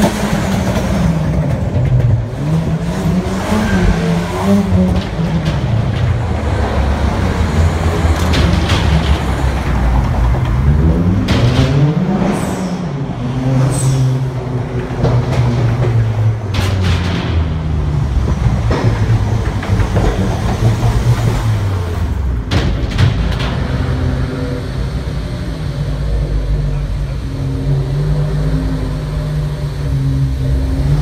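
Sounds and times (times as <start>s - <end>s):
car engines revving in tunnel: 0.0s - 31.0s.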